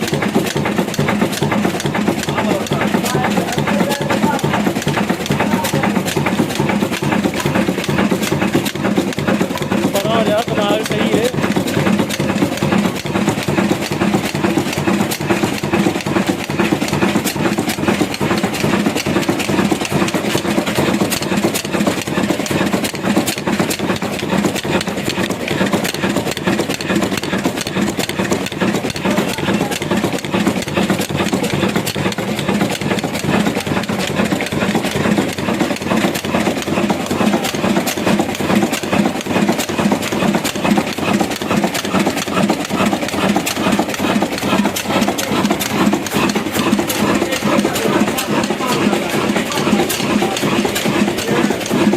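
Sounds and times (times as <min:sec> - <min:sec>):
heavy diesel engine knocking: 0:00.0 - 0:51.9.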